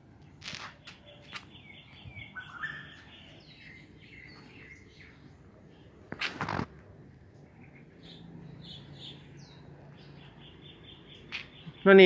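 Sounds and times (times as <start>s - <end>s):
small birds chirping: 0.1s - 6.5s, 7.2s - 12.0s.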